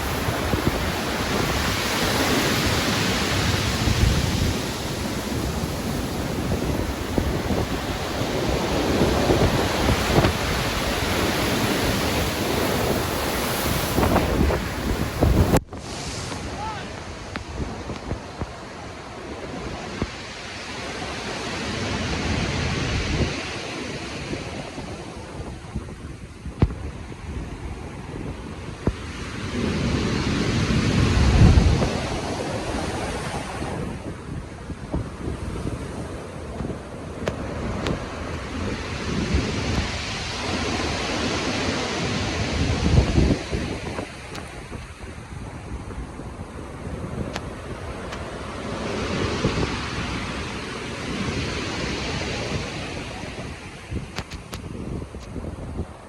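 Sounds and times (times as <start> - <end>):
ocean waves rushing: 0.0 - 56.0.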